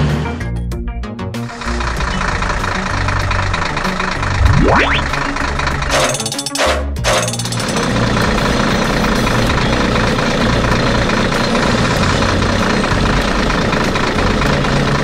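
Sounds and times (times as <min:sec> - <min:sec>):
heavy machine engine running: 0:01.4 - 0:15.0.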